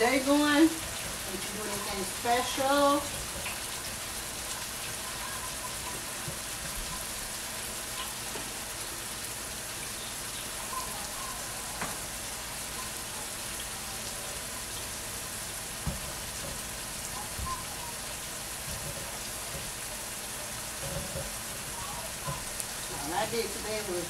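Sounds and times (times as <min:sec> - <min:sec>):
meat sizzling in a pot: 0:00.0 - 0:24.0.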